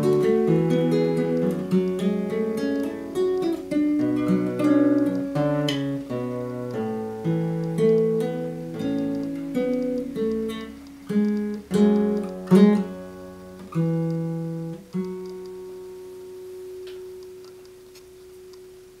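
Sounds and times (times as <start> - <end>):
fingerstyle classical guitar: 0.0 - 18.7.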